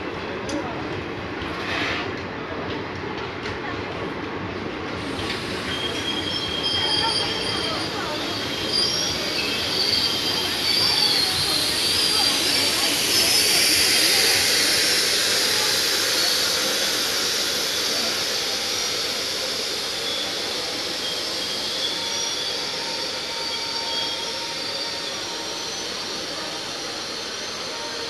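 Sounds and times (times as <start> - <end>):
train coaches rolling on rails: 0.0 - 28.0
faint wheel squeal: 1.5 - 2.1, 5.0 - 28.0.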